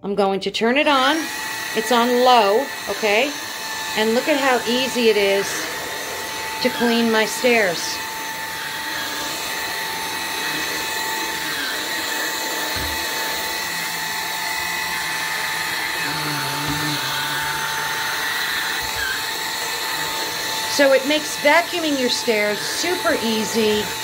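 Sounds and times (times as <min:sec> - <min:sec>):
stick vacuum motor whine: 0:00.7 - 0:24.0.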